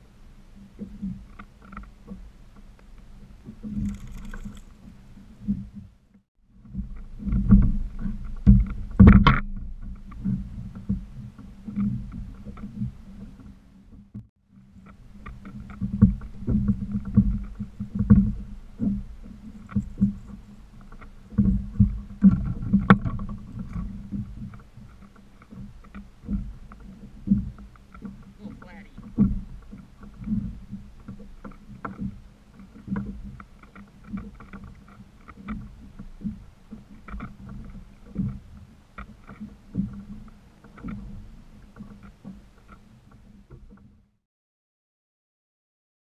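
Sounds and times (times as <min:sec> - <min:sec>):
small waves slapping a kayak hull: 0:00.0 - 0:44.1.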